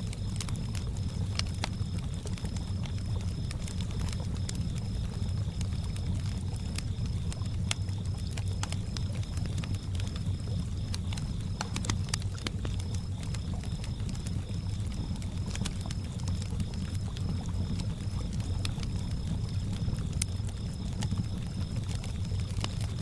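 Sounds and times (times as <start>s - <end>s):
campfire crackling and popping: 0.0s - 23.0s
crickets chirping: 0.0s - 23.0s.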